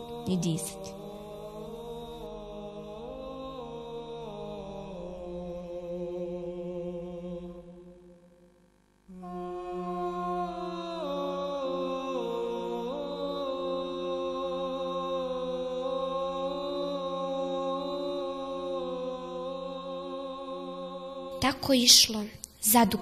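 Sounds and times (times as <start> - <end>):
voices chanting: 0.0 - 7.7, 9.1 - 22.0.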